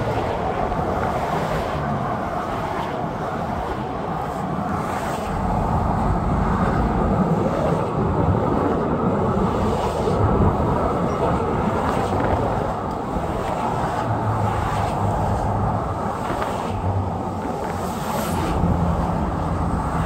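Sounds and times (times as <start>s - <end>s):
car road noise from inside: 0.0s - 20.0s.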